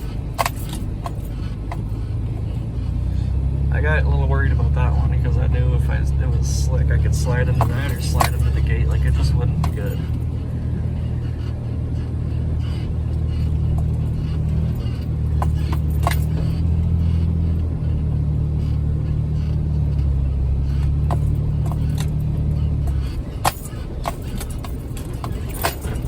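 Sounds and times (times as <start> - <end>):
car engine low drone: 0.0 - 26.0.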